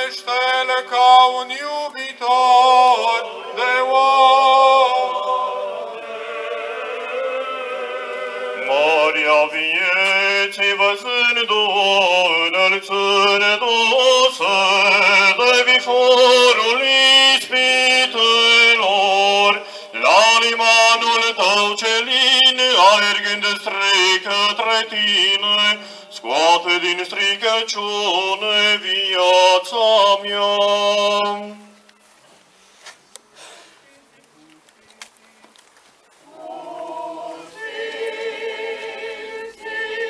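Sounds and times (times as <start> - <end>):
men's choir chanting a cappella: 0.0 - 31.6, 36.2 - 40.0.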